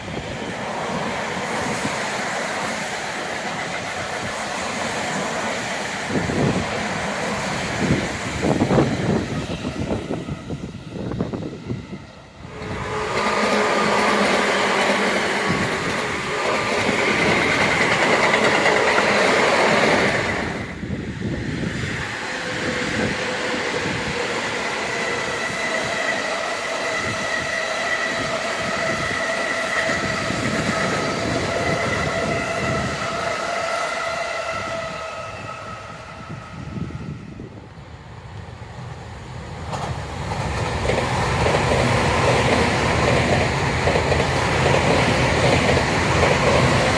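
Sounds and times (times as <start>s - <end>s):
train motor whine: 0.0s - 37.8s
train wheels rattling on rails: 0.0s - 46.9s.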